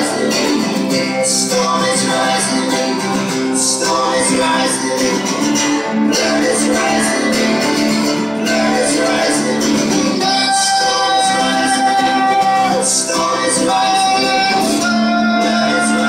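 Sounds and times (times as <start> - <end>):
acoustic guitar strumming: 0.0 - 16.0
man singing into a microphone: 0.0 - 16.0.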